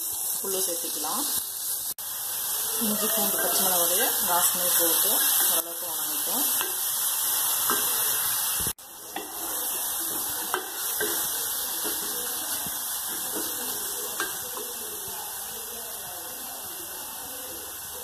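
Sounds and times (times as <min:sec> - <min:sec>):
onion sizzling in oil: 0:00.0 - 0:18.0.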